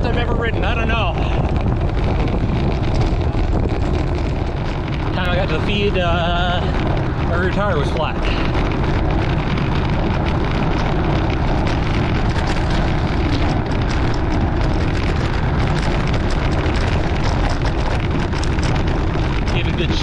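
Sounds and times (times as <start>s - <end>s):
bicycle road noise: 0.0s - 20.0s
bike rattles: 0.0s - 20.0s
wind rushing over microphone: 0.0s - 20.0s.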